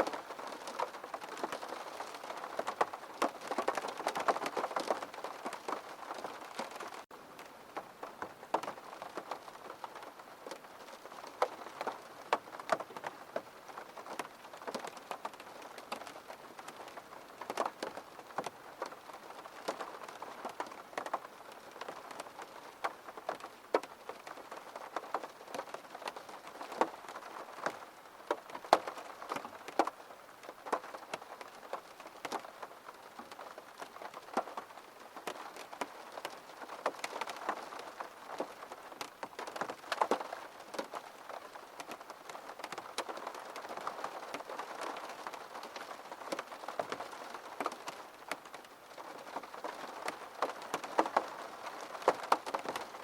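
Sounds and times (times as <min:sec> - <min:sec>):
faint hiss of rain: 0:00.0 - 0:53.0
raindrops tapping on window glass: 0:00.0 - 0:53.0.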